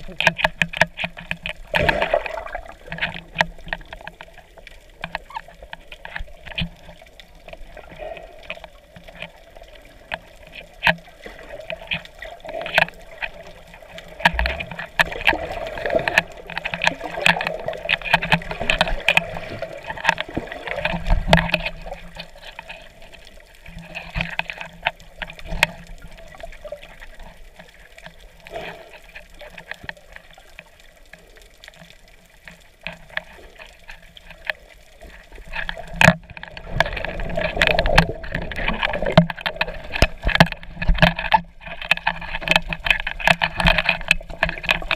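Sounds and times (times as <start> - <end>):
small clicks and knocks: 0.0 - 44.9
water sloshing and bubbling: 0.0 - 44.9.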